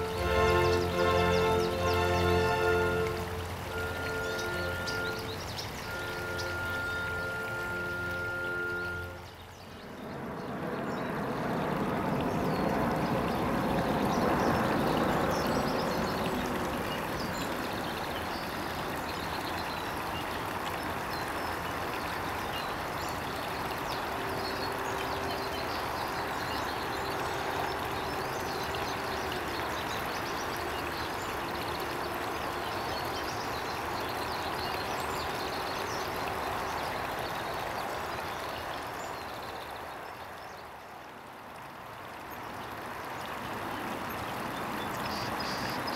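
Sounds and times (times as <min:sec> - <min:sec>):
running water: 0:00.0 - 0:45.9.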